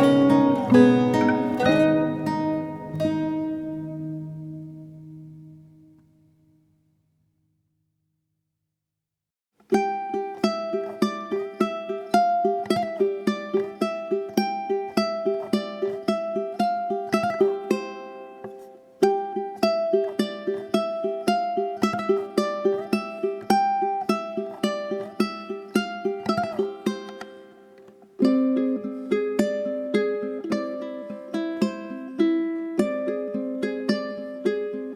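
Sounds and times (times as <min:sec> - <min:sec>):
plucked string melody: 0:00.0 - 0:06.8, 0:09.6 - 0:34.9.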